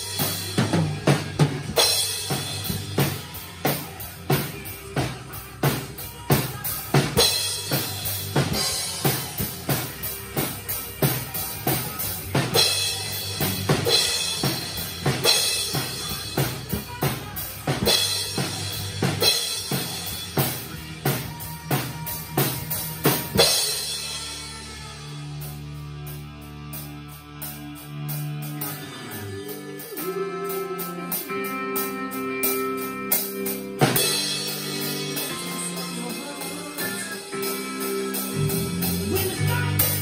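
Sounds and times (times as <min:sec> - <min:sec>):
drum kit rock beat: 0:00.0 - 0:40.0.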